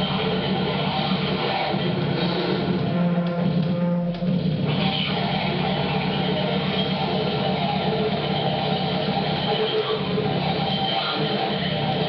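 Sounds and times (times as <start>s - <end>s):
distorted electronic noise: 0.0s - 12.0s
steady low drone: 0.0s - 12.0s.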